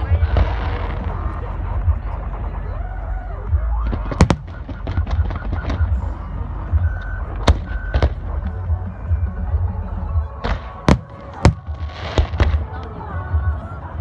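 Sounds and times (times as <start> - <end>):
fireworks bursting with sharp bangs: 0.0 - 2.8, 3.6 - 13.9
continuous low rumble: 0.0 - 14.0.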